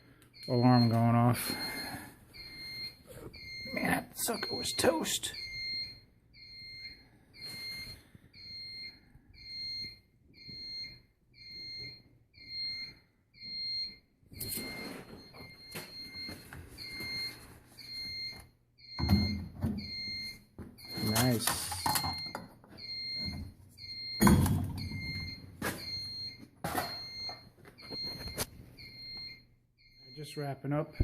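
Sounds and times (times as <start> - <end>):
alarm system beeping: 0.3 - 31.0.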